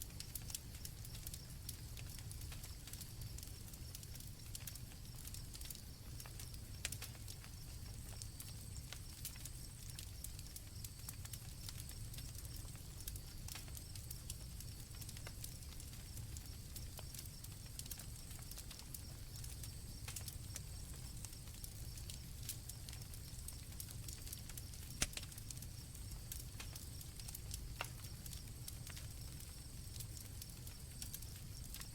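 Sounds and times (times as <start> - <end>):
campfire crackling and popping: 0.0 - 31.9
crickets trilling: 0.2 - 31.9.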